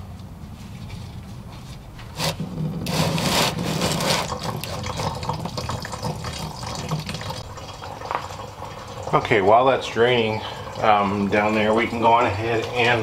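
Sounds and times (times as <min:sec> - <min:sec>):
coolant pouring into drain pan: 0:02.4 - 0:13.0.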